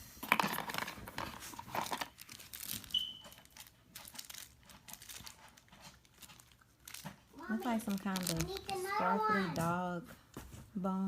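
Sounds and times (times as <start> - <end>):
plastic toy pieces rustling: 0.2 - 9.7.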